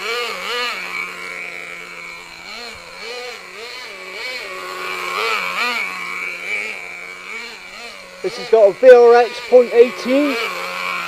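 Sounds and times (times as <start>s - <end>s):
model engine revving: 0.0s - 11.0s.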